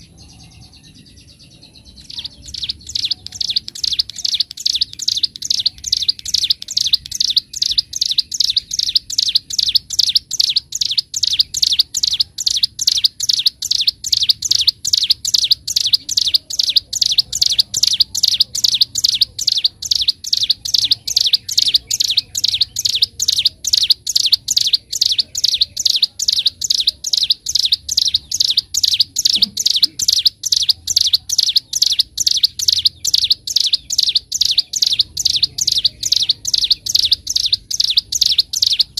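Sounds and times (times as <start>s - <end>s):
bird singing rapid repeated notes: 0.0s - 38.9s.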